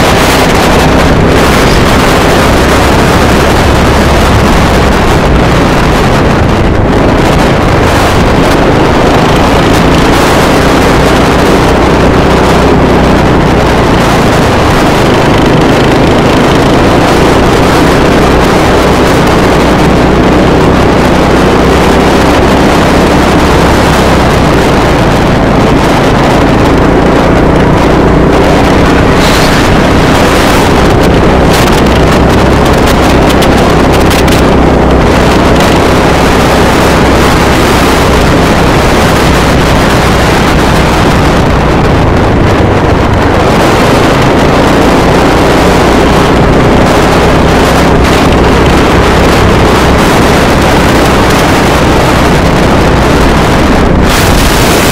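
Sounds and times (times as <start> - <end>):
motorcycle engine cruising: 0.0 - 54.9
wind noise on microphone: 0.0 - 54.9.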